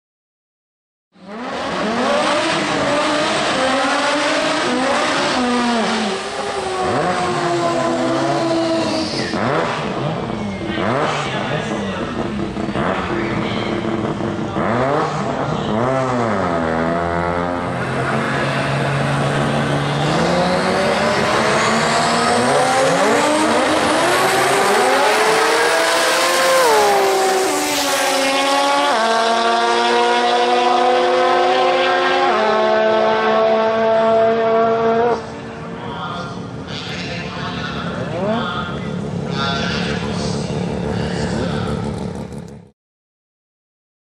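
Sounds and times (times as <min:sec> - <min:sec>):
drag car engine revving: 0:01.2 - 0:42.7.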